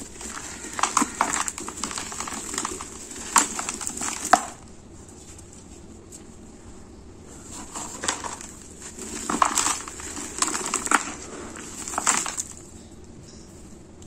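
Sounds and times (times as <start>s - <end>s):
cement lumps crunching in hands: 0.0s - 6.4s, 7.3s - 12.8s.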